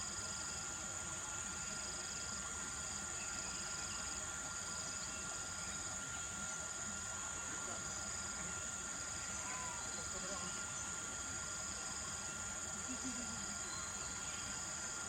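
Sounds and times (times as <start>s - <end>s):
insects chirring drone: 0.0s - 15.0s
lower insect trill: 0.0s - 15.0s.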